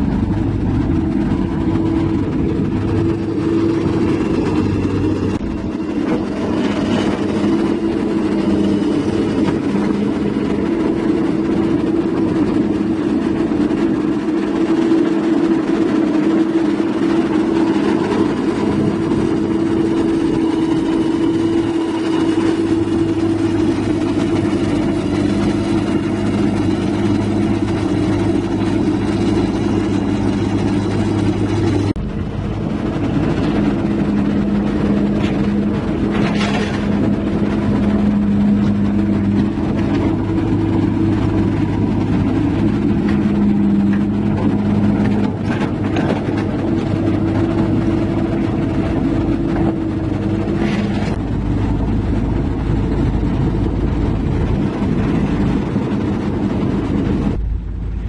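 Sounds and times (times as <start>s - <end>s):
excavator diesel engine idling: 0.0s - 58.0s.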